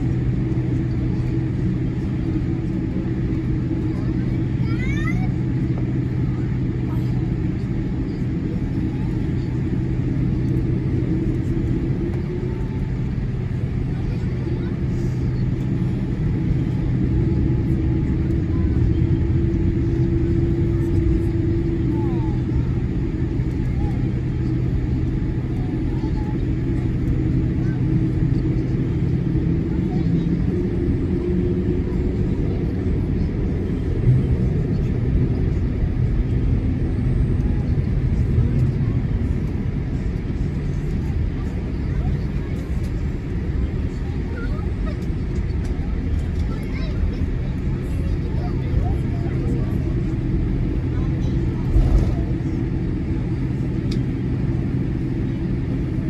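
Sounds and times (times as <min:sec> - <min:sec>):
airliner cabin rumble: 0:00.0 - 0:56.0
constant low hum: 0:00.0 - 0:56.0.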